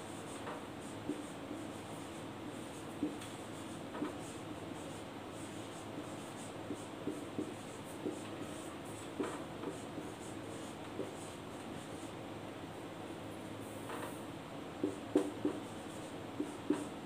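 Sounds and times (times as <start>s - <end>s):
marker writing on whiteboard: 0.1s - 12.1s, 14.8s - 17.0s.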